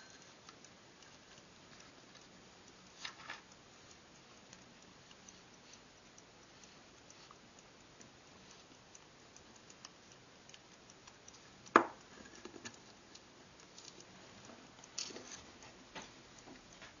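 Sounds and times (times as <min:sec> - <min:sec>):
pocket watch ticking: 0:00.0 - 0:15.7.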